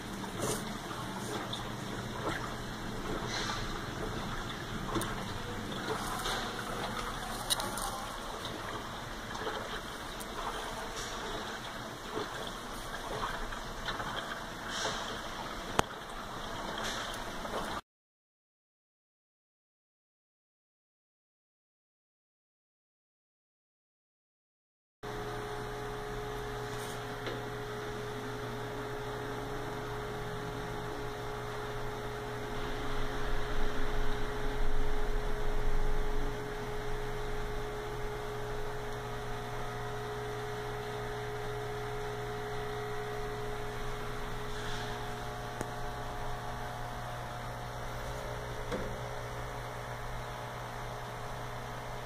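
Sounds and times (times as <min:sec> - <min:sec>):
aquarium equipment humming: 0:00.0 - 0:17.8, 0:25.0 - 0:52.0.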